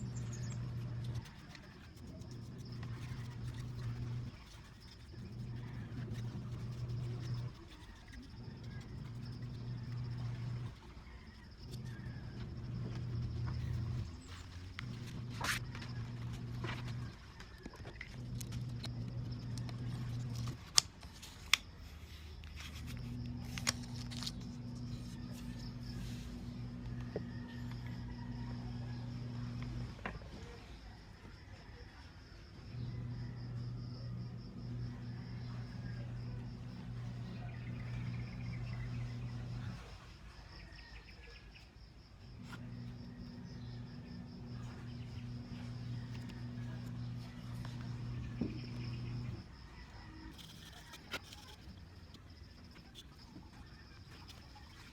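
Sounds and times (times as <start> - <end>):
low steady hum: 0.0 - 31.6, 32.4 - 54.9.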